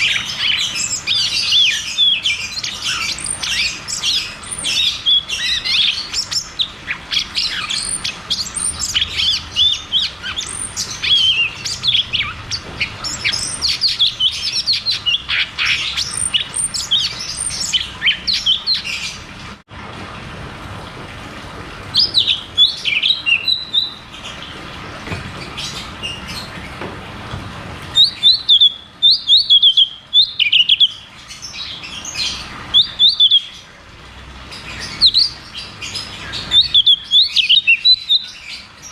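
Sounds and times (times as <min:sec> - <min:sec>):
songbird chirps and trills: 0:00.0 - 0:19.3, 0:21.9 - 0:26.8, 0:27.9 - 0:33.8, 0:34.4 - 0:38.9.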